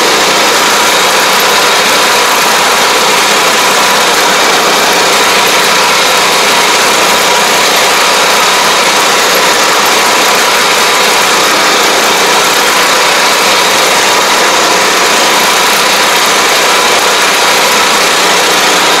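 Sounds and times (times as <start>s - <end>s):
sprayer engine running: 0.0s - 19.0s.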